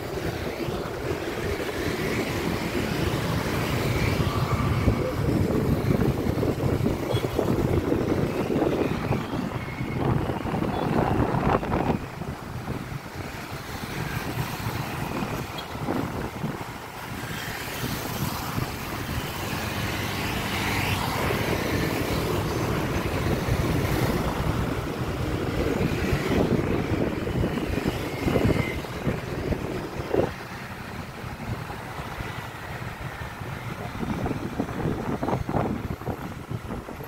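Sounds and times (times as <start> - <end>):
cars passing: 0.0 - 37.0
motorbikes passing: 0.0 - 37.0.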